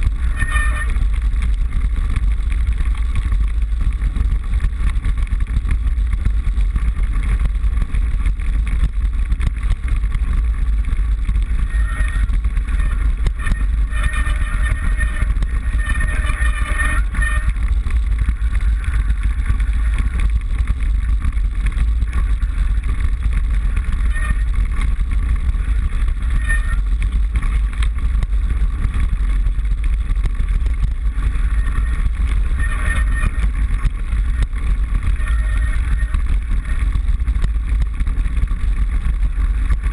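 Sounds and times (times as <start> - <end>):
wind buffeting camera: 0.0 - 39.9.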